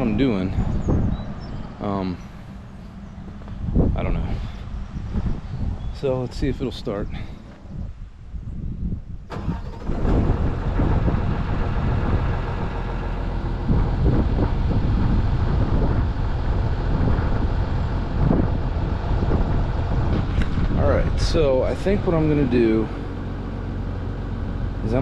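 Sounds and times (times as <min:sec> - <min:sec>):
diesel engine cranking and running: 0:00.0 - 0:07.8, 0:09.3 - 0:25.0.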